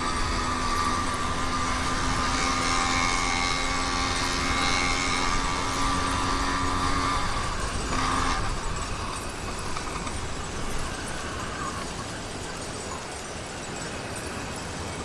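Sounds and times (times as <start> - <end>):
two-stroke engine running: 0.0 - 12.8.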